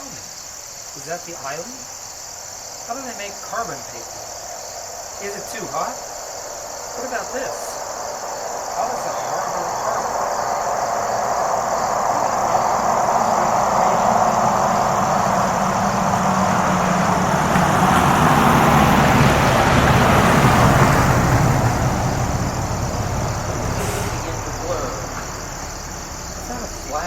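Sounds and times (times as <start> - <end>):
crickets chirping: 0.0 - 27.0
road vehicle passing: 0.3 - 27.0.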